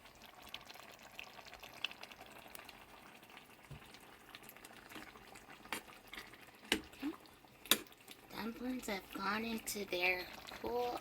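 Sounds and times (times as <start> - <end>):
stew bubbling and popping: 0.0 - 11.0.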